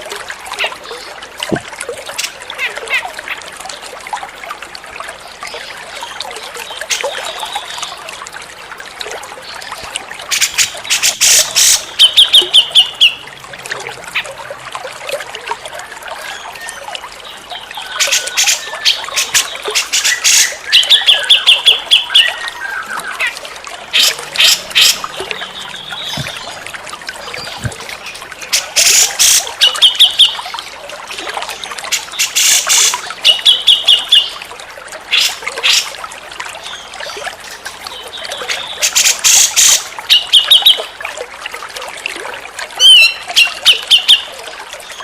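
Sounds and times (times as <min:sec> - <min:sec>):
trickle of running water: 0:00.0 - 0:45.0.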